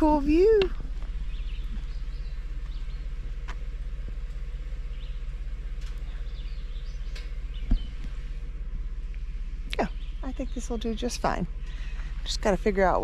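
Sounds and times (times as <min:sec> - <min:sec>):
birds chirping: 0:00.0 - 0:13.0
vehicle engine idling: 0:00.0 - 0:13.0.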